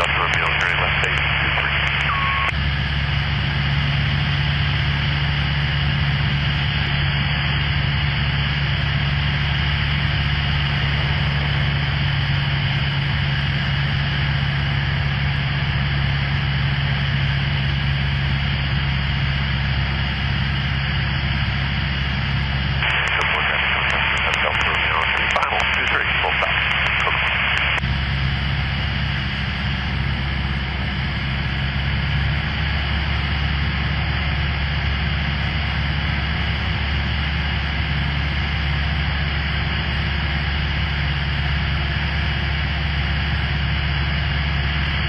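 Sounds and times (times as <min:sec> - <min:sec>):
propeller plane engine droning: 0:00.0 - 0:45.0.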